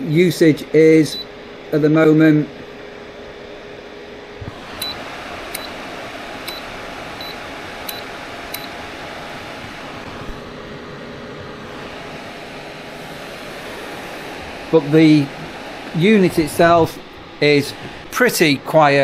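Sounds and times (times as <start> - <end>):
fan heater blowing air: 0.0 - 19.0.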